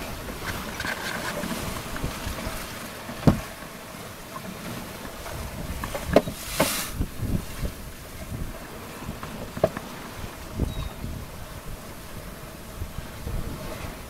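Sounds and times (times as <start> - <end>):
water rushing past boat: 0.0 - 14.0
wind: 0.0 - 14.0.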